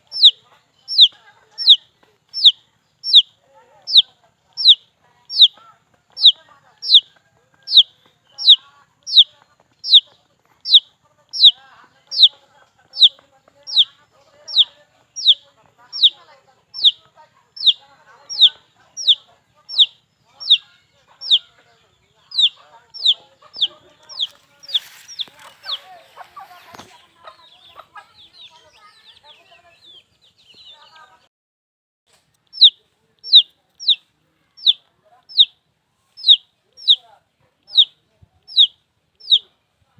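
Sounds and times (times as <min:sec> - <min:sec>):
chick peeping: 0:00.0 - 0:31.2, 0:32.4 - 0:39.6.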